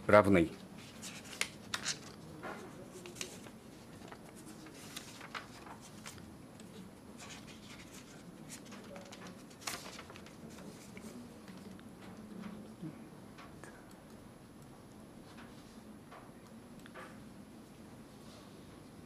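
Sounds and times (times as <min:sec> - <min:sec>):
faint clicks and rustles: 0:00.6 - 0:19.0.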